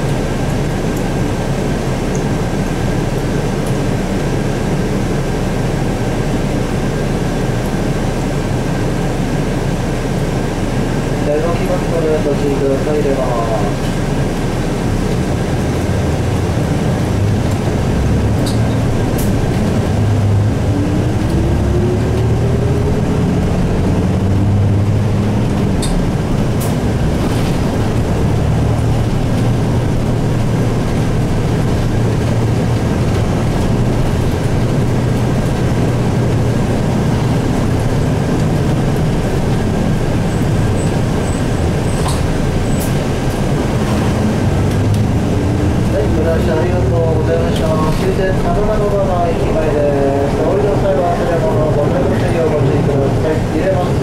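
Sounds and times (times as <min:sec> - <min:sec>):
bus diesel engine: 0:00.0 - 0:54.0
road noise: 0:00.0 - 0:54.0.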